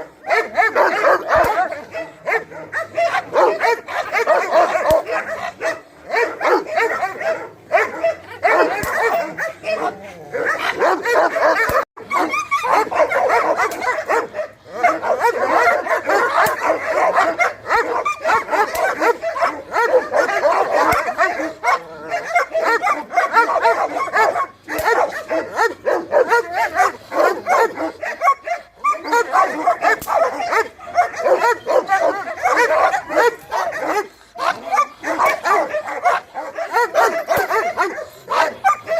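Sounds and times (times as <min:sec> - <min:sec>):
dogs barking and yipping: 0:00.0 - 0:38.9.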